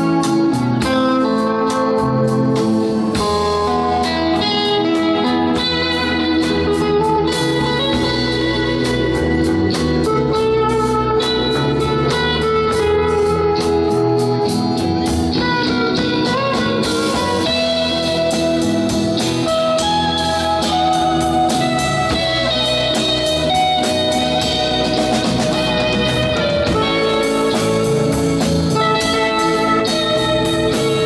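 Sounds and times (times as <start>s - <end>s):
bass: 0.0s - 31.0s
electric guitar melody: 0.0s - 31.0s
steady drum beat: 0.0s - 31.0s.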